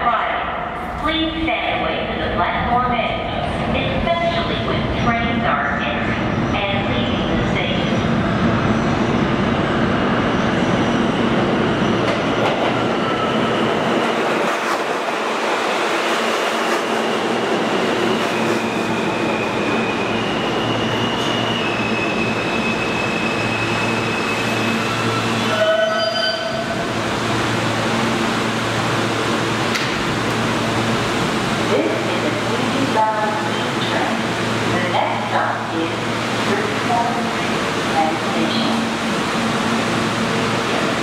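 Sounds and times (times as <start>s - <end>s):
subway train braking: 0.3s - 41.0s.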